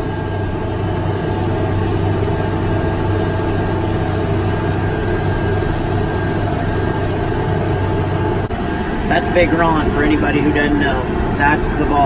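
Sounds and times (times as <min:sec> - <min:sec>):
faint high whine: 0:00.0 - 0:12.0
tractor engine hum: 0:00.0 - 0:12.0.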